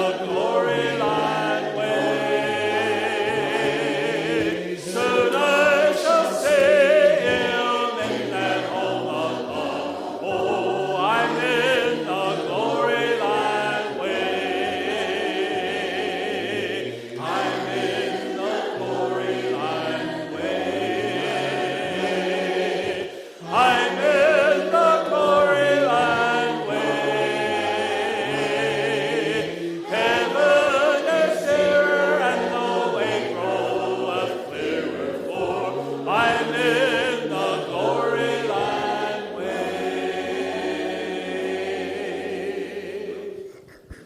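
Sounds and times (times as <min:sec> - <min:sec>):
choir singing a slow song: 0:00.0 - 0:44.0.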